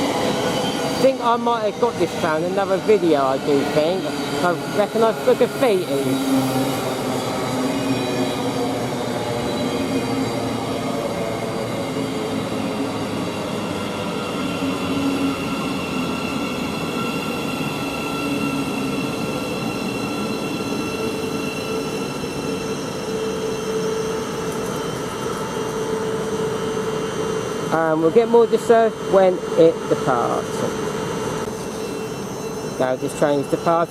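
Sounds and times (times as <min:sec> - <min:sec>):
electric train hum and whine: 0:00.0 - 0:33.9.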